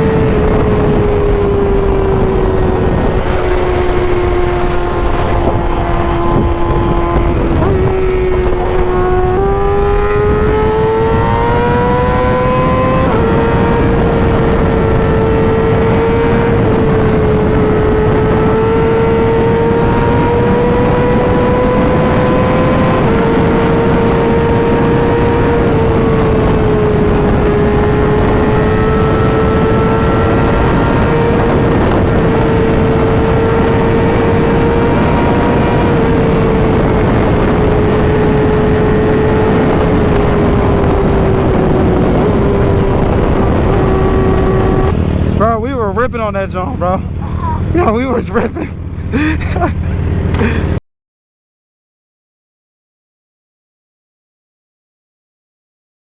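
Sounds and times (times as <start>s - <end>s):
motorcycle engine at high revs: 0.0s - 50.8s
wind rush: 0.0s - 50.8s.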